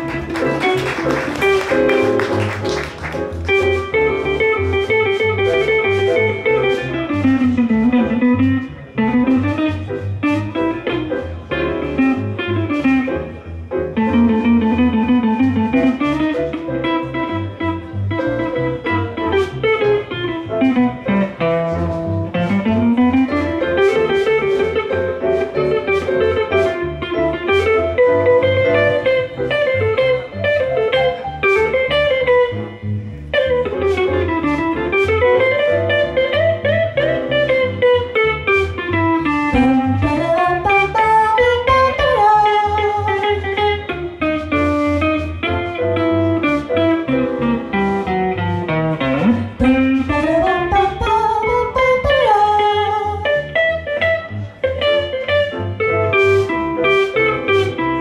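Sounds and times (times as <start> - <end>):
guitar melody: 0.0 - 58.0
jazz band playing swing: 0.0 - 58.0.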